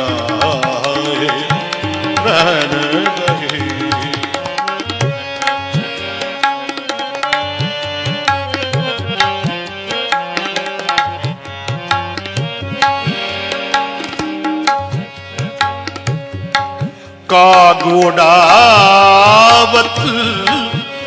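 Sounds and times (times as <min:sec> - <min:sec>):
harmonium held notes: 0:00.0 - 0:21.0
tabla playing rhythm: 0:00.0 - 0:21.0.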